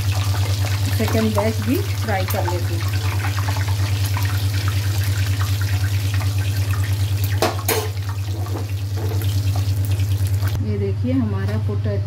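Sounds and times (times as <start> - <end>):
food sizzling in hot oil: 0.0 - 10.6.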